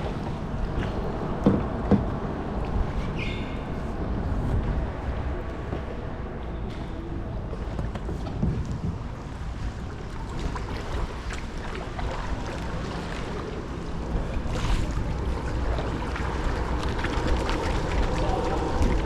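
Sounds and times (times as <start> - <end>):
water lapping around kayak: 0.0 - 19.0
wind buffeting microphone: 0.0 - 19.0.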